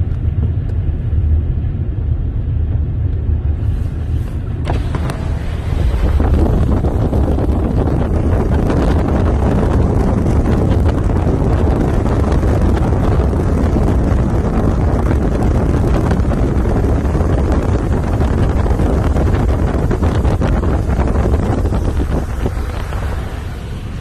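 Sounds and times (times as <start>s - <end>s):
car road rumble from inside: 0.0s - 24.0s
wind buffeting microphone: 0.0s - 24.0s.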